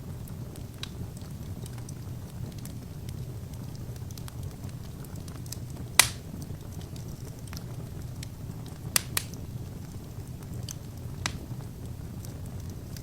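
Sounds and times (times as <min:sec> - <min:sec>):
fire rumbling: 0:00.0 - 0:13.0
logs popping in fire: 0:00.0 - 0:13.0.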